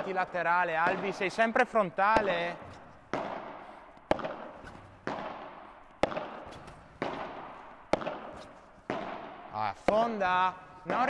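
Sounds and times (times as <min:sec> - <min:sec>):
padel racket hitting ball: 0:00.0 - 0:11.0.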